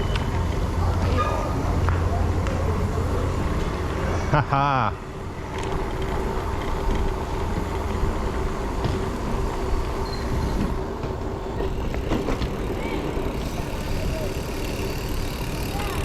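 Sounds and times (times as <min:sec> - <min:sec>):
bicycle tyre noise: 0:00.0 - 0:16.0.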